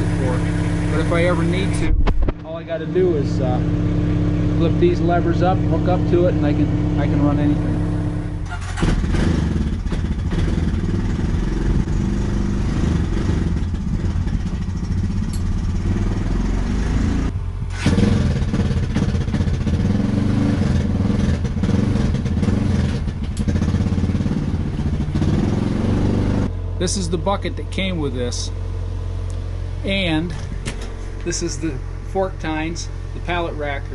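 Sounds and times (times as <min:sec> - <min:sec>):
skid steer engine running: 0:00.0 - 0:33.9.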